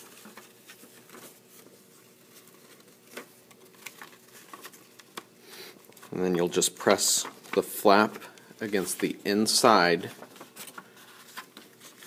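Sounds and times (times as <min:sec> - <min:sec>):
faint steady hum: 0:00.0 - 0:12.0
paper rustling and folding: 0:00.0 - 0:12.0.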